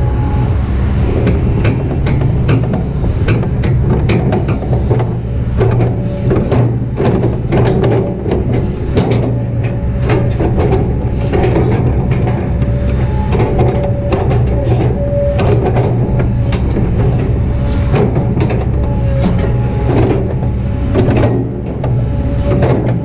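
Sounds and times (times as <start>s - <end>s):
excavator diesel engine running: 0.0s - 23.0s
thin whine: 0.0s - 23.0s
digging knocks and clatters: 1.2s - 23.0s.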